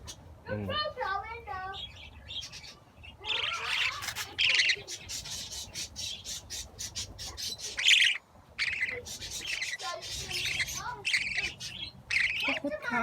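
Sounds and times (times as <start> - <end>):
budgerigar chicks squawking: 1.7 - 13.0.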